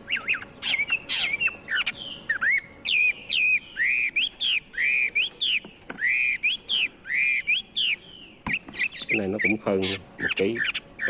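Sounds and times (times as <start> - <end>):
songbird singing whistled notes: 0.0 - 11.0.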